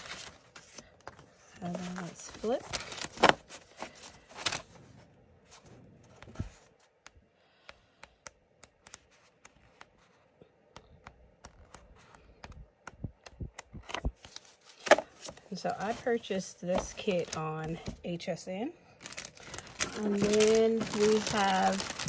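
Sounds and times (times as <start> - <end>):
cards rustling and tapping: 0.0 - 4.7, 5.6 - 18.1, 19.0 - 22.0.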